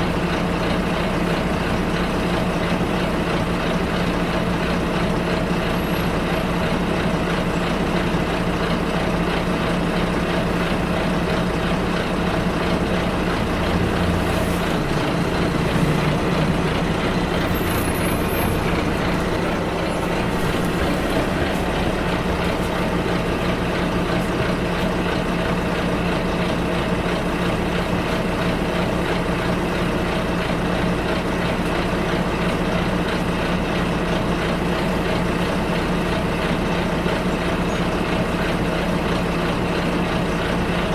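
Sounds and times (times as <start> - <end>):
bus engine running: 0.0 - 40.9
road noise: 0.0 - 40.9.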